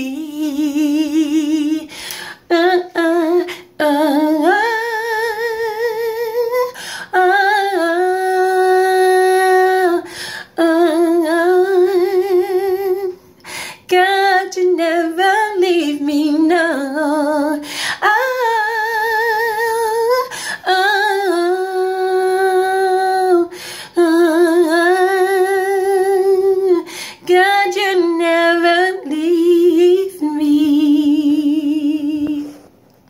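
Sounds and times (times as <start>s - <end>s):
woman singing unaccompanied: 0.0s - 32.6s.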